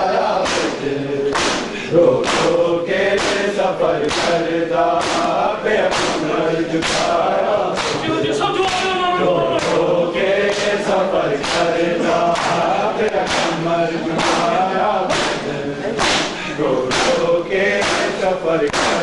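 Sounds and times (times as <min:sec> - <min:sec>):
men chanting in unison: 0:00.0 - 0:19.0
hands slapping chests: 0:00.4 - 0:07.2, 0:07.8 - 0:08.9, 0:09.6 - 0:09.8, 0:10.5 - 0:13.6, 0:14.2 - 0:17.2, 0:17.8 - 0:19.0.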